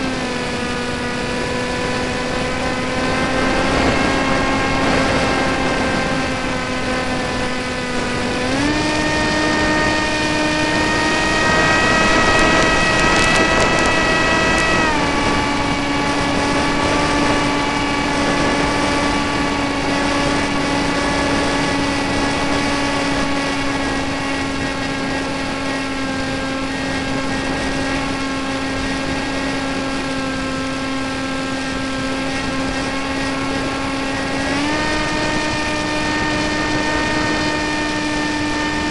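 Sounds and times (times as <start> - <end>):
model airplane motor drone: 0.0 - 38.9
rushing air: 0.0 - 38.9.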